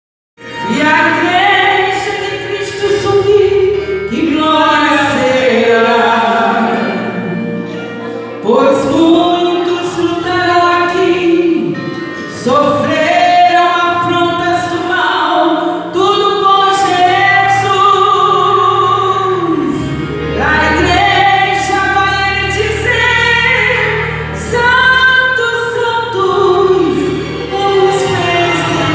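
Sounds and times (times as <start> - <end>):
musical accompaniment: 0.4 - 28.9
woman singing a hymn: 0.5 - 7.6, 8.4 - 28.9.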